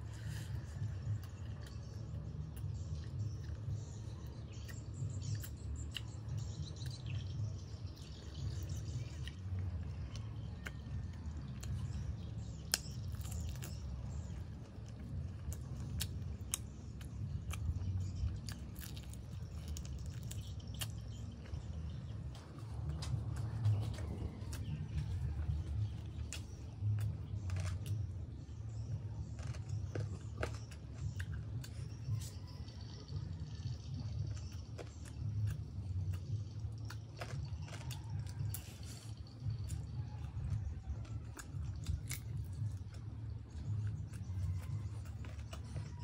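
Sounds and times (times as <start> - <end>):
person chewing: 0.0 - 7.4, 8.0 - 28.3, 29.1 - 32.5, 34.3 - 46.0
low rumble: 0.0 - 46.0.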